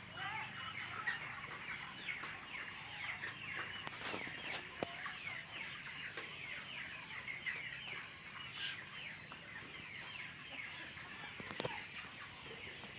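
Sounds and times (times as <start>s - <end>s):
flock of chickens calling: 0.0s - 12.9s.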